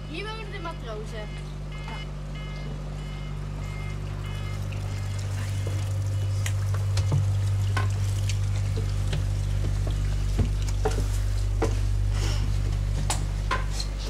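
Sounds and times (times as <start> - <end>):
ship engine drone: 0.0 - 14.0.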